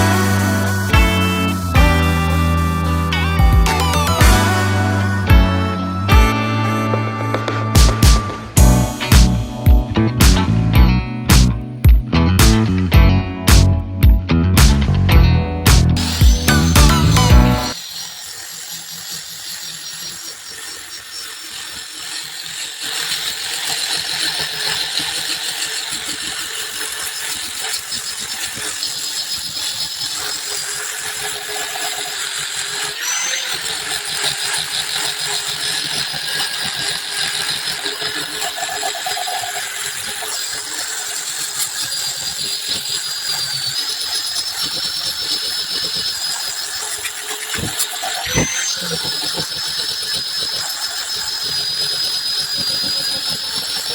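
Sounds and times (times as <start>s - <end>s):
power tool whining: 0.0s - 53.9s.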